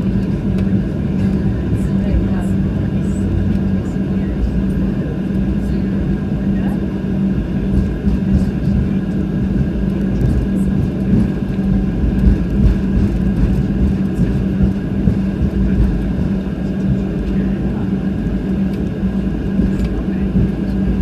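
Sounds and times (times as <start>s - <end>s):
constant low hum: 0.0s - 21.0s
jet engines roaring in cabin: 0.0s - 21.0s.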